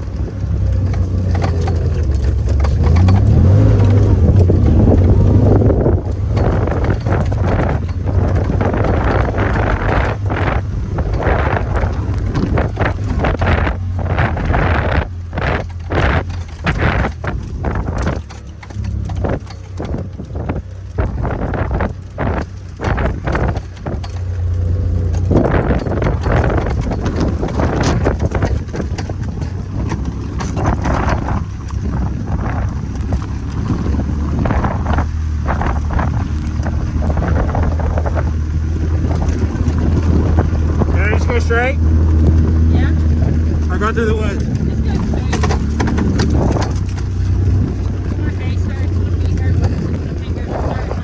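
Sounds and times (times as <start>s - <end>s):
irregular thumps: 0.0s - 51.0s
vehicle engine running: 0.0s - 51.0s
wind rushing over microphone: 0.0s - 51.0s.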